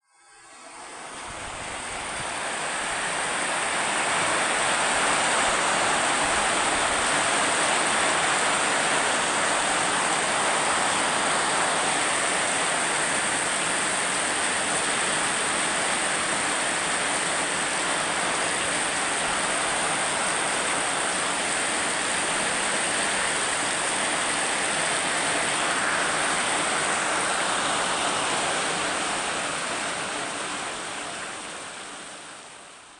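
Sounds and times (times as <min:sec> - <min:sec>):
steady rain: 0:00.7 - 0:32.9.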